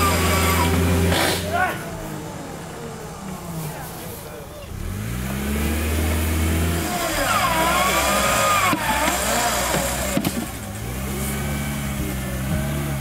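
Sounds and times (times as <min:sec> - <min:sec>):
engine revving in mud: 0:00.0 - 0:13.0.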